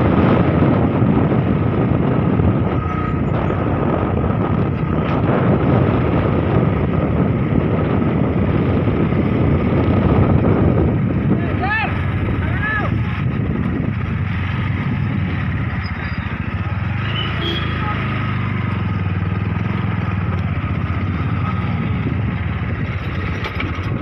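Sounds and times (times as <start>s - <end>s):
motorcycle engine and road noise: 0.0s - 24.0s
wind rushing over microphone: 0.0s - 24.0s.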